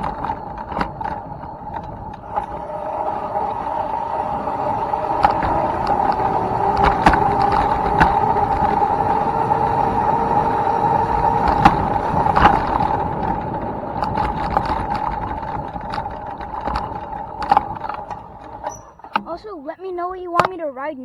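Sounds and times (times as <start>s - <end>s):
clicks and knocks over rough ground: 0.0s - 2.6s, 5.0s - 19.4s
electric dirt bike motor whining: 0.0s - 19.4s.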